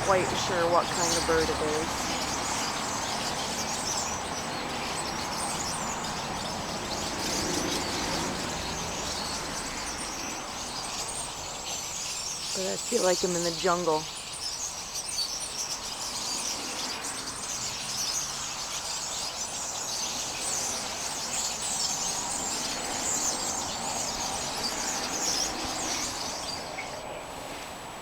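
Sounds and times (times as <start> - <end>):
flock of birds chirping: 0.0 - 28.0.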